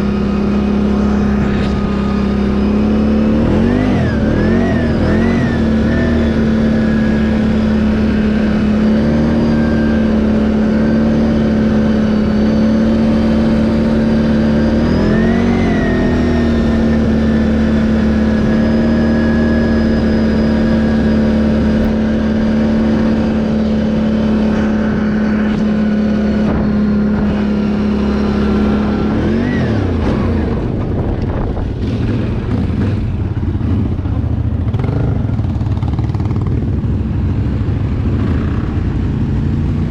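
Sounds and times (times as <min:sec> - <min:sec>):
atv engine running: 0:00.0 - 0:39.9
engine knocks and clatter: 0:00.0 - 0:39.9.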